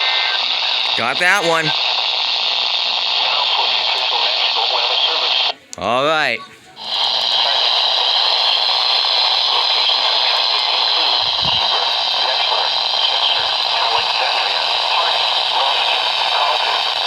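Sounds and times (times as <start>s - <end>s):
radio static hiss: 0.0s - 5.6s, 6.8s - 17.0s.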